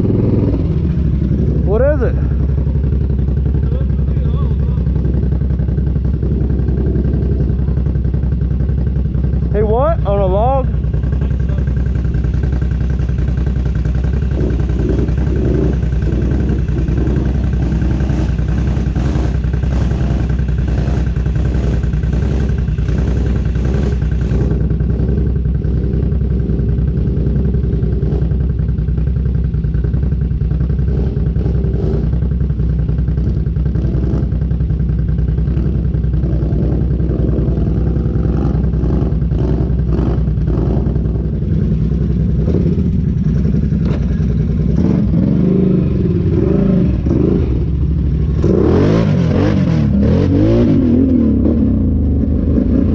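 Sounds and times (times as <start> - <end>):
off-road vehicle engine running: 0.0 - 52.9.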